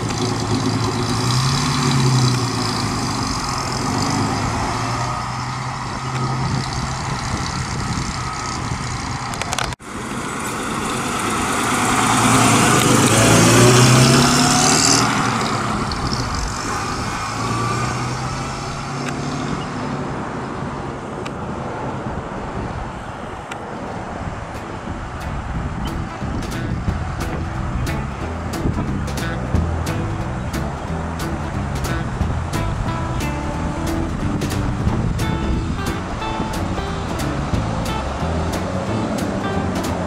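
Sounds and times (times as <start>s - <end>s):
car engine accelerating: 0.0s - 20.2s, 25.0s - 40.0s.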